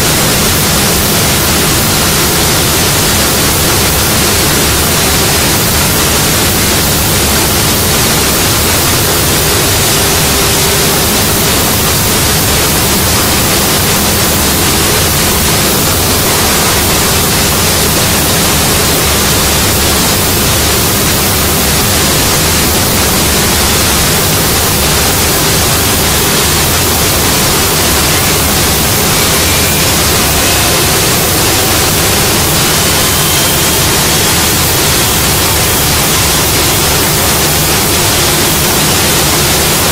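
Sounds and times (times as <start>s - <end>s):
router machine rushing noise: 0.0s - 39.9s.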